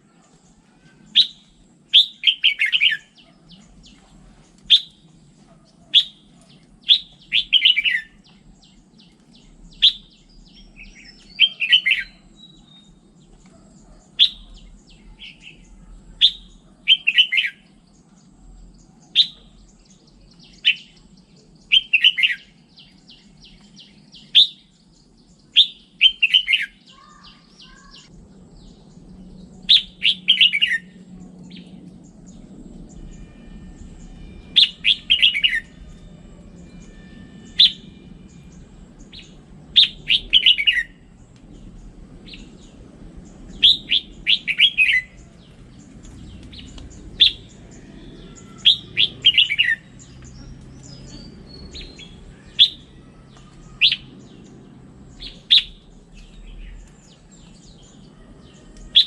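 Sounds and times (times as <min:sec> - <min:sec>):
faint low hum: 0:00.0 - 0:26.0, 0:26.8 - 0:59.0
bird singing bright phrases: 0:00.0 - 0:59.0.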